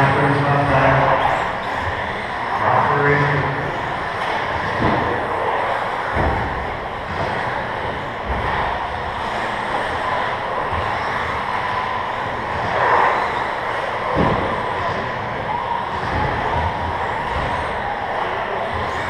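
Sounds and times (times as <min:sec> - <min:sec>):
tyre and chassis noise: 0:00.0 - 0:19.0.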